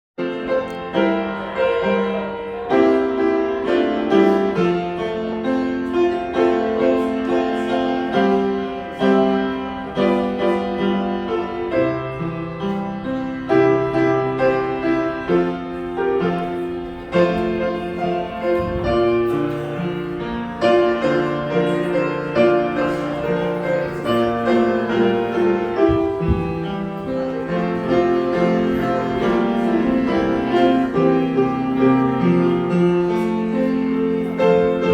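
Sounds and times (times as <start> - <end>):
piano melody over chords: 0.2 - 34.9.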